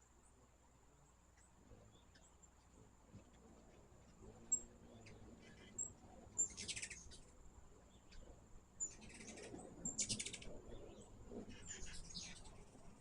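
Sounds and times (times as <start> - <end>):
hummingbirds chipping and chattering: 0.0 - 13.0.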